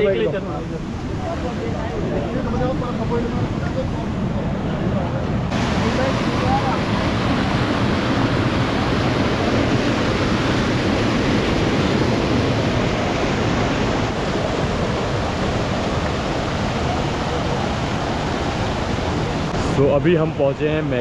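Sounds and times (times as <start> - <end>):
fast-flowing river water rushing: 0.0 - 21.0.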